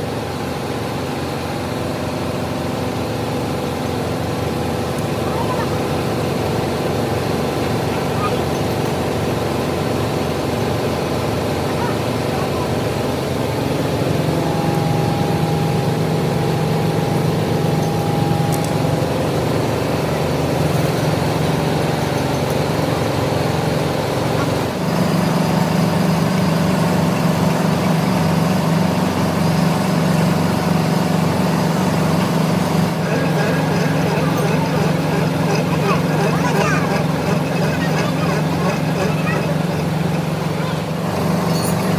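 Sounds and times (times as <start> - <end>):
workshop machinery motor drone: 0.0 - 41.9.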